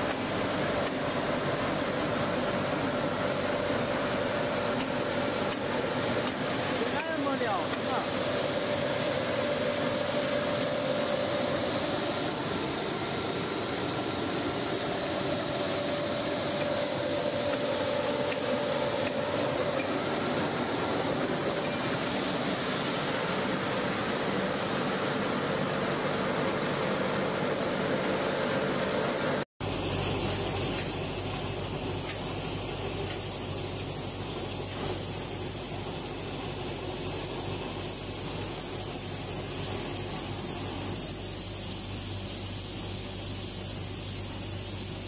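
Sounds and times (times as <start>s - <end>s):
flour mill humming and whirring: 0.0s - 45.0s.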